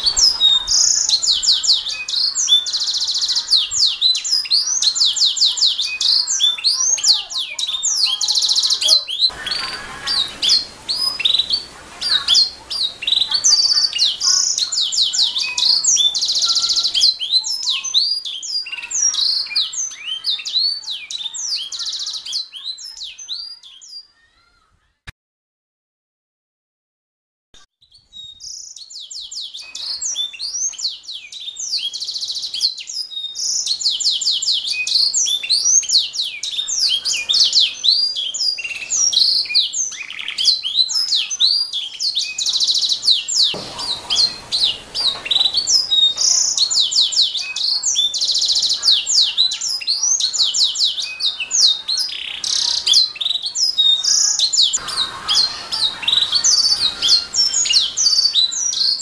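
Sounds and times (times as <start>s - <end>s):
canary singing: 0.0s - 24.4s, 27.8s - 59.0s.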